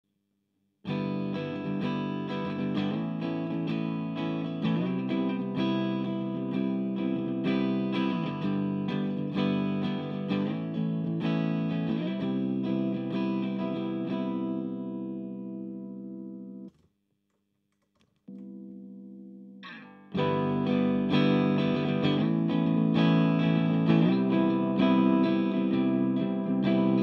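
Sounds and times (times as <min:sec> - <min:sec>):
electric guitar chords: 0:00.9 - 0:16.7, 0:18.3 - 0:27.0.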